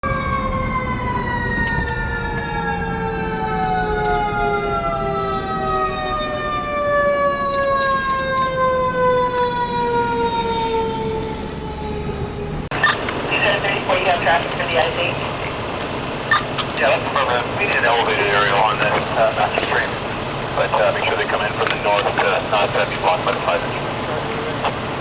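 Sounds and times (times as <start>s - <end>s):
fire engine siren winding down: 0.0s - 25.0s
low engine rumble: 0.0s - 25.0s.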